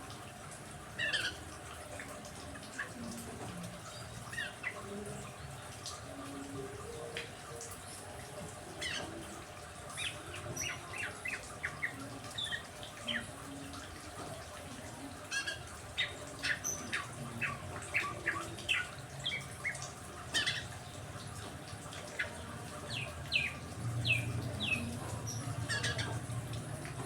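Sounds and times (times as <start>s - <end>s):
songbirds chirping: 0.8s - 27.0s.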